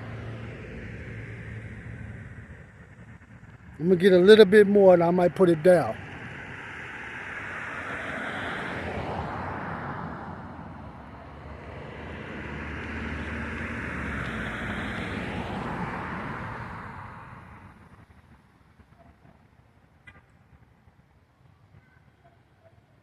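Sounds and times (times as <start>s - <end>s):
vehicles passing on road: 0.0s - 23.0s.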